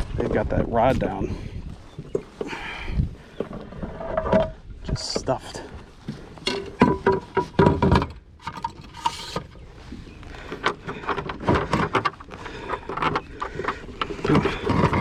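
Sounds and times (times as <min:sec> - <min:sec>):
knocks and rattles aboard kayak: 0:01.0 - 0:15.0.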